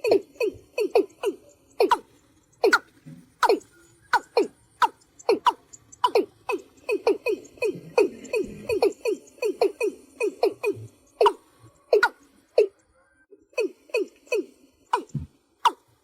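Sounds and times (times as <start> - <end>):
bird calling sliding notes: 0.0 - 12.8, 13.6 - 16.0.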